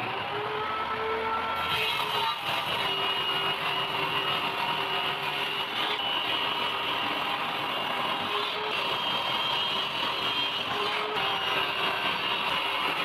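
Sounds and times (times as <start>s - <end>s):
table saw cutting plywood: 0.0s - 7.0s, 8.1s - 13.0s.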